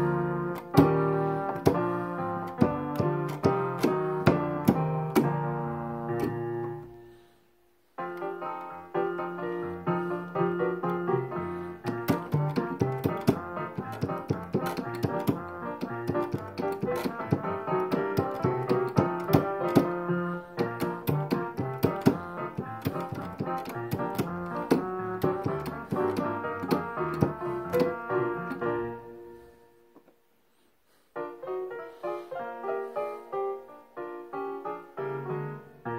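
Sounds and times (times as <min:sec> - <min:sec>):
electronic keyboard piano accompaniment: 0:00.0 - 0:30.2, 0:31.2 - 0:35.9.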